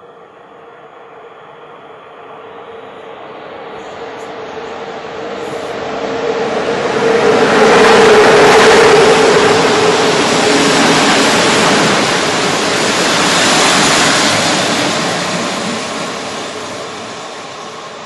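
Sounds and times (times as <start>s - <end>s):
train wheels rolling on rails: 2.7s - 18.0s.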